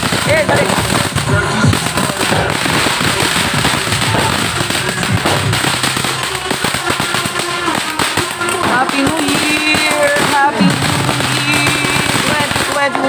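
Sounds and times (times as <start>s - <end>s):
fireworks crackling pops: 0.0s - 13.0s
fireworks hiss: 0.0s - 13.0s.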